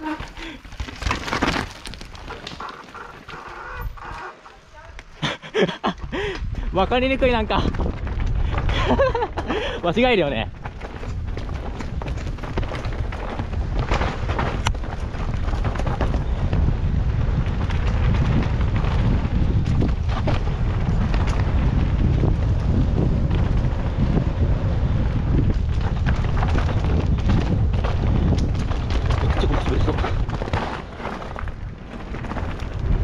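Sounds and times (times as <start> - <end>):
bike clattering over dirt: 0.0 - 33.0
wind buffeting microphone: 4.8 - 33.0.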